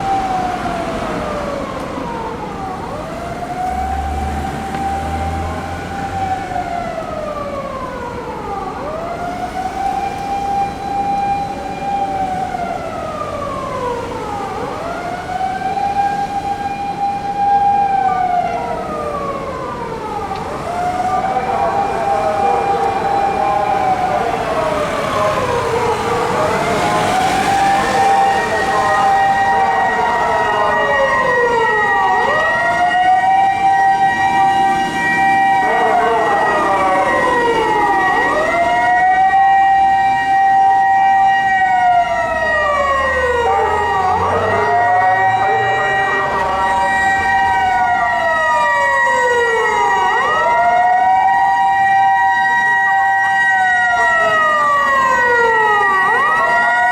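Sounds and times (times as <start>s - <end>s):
mechanical sirens wailing: 0.0s - 56.9s.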